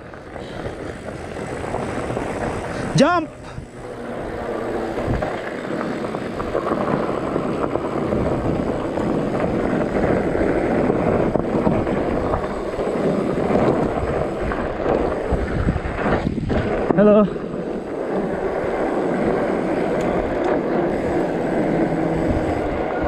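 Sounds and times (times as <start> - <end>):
tyre and trail rumble: 0.0 - 23.0
wind buffeting microphone: 0.0 - 23.0.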